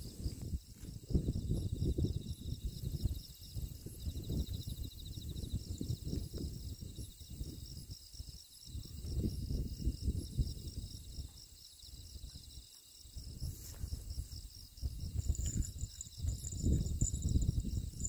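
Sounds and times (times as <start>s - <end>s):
insects chirping in trills: 0.0s - 18.0s.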